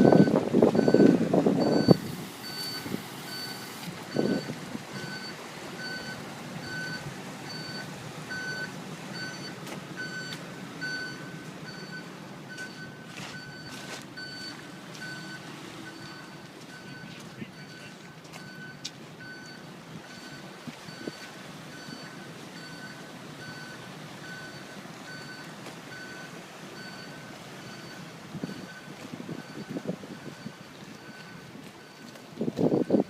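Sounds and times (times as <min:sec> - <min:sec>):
reversing alarm beeping: 0:00.0 - 0:33.0.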